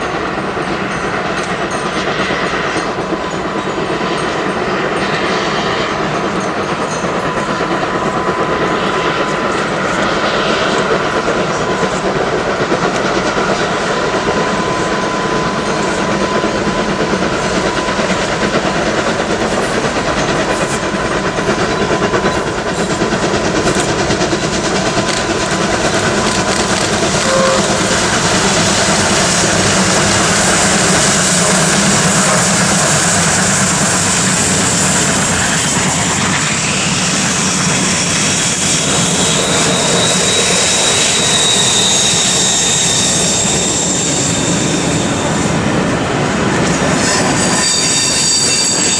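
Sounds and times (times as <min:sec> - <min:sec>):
steam locomotives rumbling: 0:00.0 - 0:48.9.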